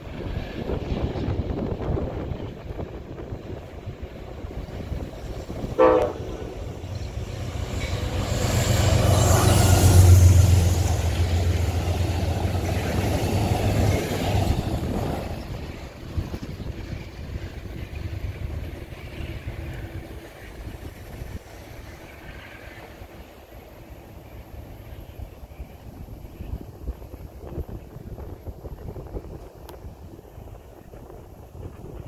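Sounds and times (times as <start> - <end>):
diesel locomotive engine drone: 0.0 - 32.0
train wheels rumbling: 0.0 - 32.0.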